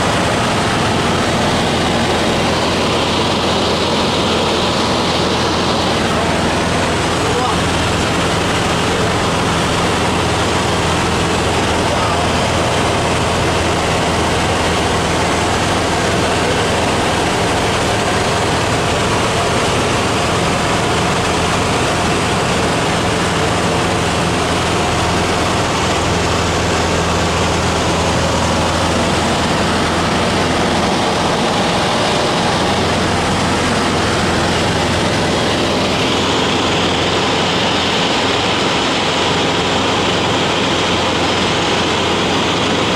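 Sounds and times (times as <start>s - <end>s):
aircraft engine and propeller drone: 0.0s - 42.9s
airflow rushing: 0.0s - 42.9s.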